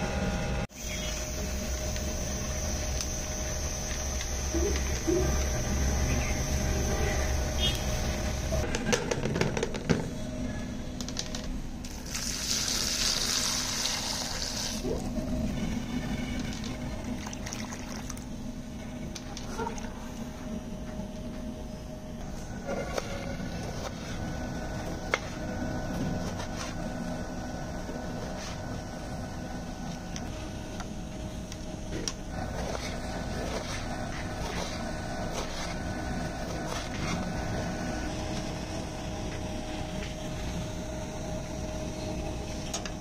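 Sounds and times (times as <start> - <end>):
mechanical hum: 0.0 - 43.0.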